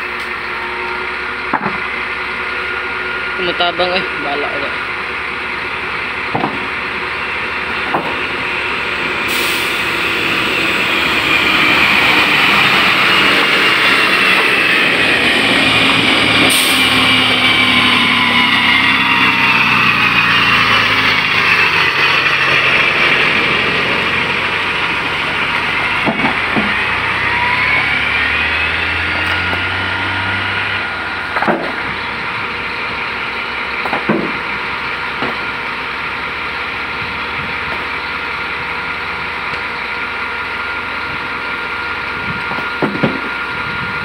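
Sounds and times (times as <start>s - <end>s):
heavy diesel engines revving: 0.0s - 44.0s.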